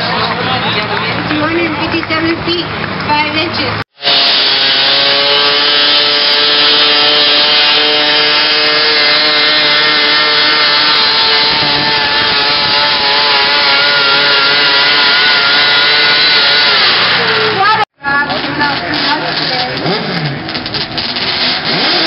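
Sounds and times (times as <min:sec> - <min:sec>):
tractor engine at full throttle: 0:00.0 - 0:22.0.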